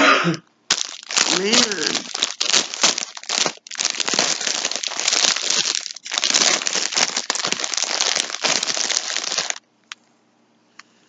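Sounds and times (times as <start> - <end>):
plastic packaging crinkling: 0.7 - 9.6.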